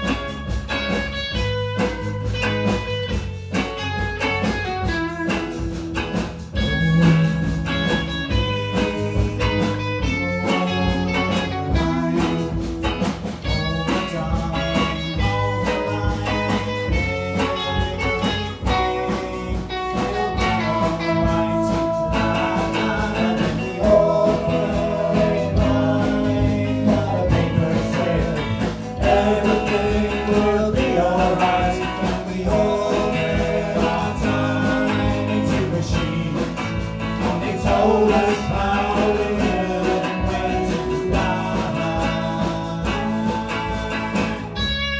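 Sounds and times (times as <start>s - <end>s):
rock band playing live: 0.0s - 44.9s
person singing: 6.6s - 44.8s.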